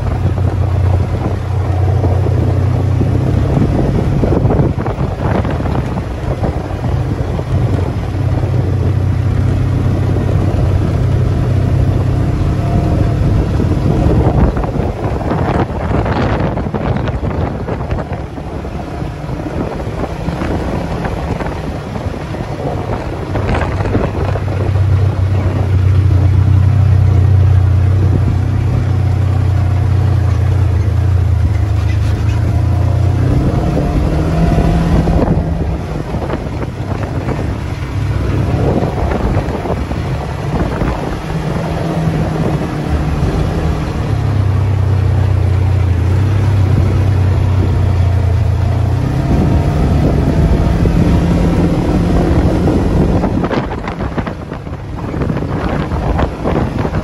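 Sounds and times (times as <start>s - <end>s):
vehicle engine humming: 0.0s - 57.0s
wind on microphone: 0.0s - 57.0s.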